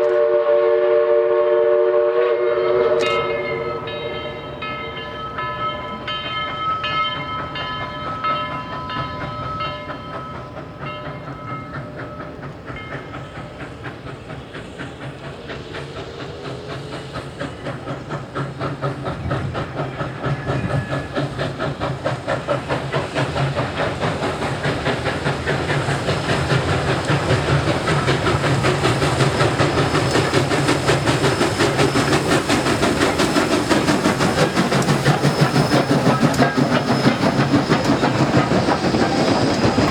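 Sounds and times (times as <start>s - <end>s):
steam locomotive chime whistle: 0.0s - 21.8s, 25.7s - 39.9s
train rhythmic running beat: 2.1s - 39.9s.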